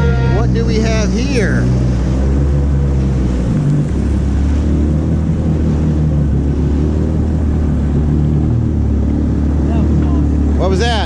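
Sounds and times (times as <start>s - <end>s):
jet ski engine running: 0.0s - 11.0s
rushing water: 0.0s - 11.0s.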